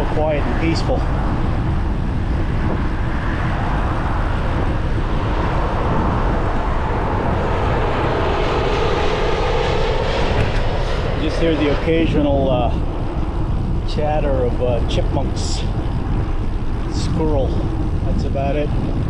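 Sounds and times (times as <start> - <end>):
airplane engines rumbling overhead: 0.0 - 19.0
wind on microphone: 0.0 - 19.0.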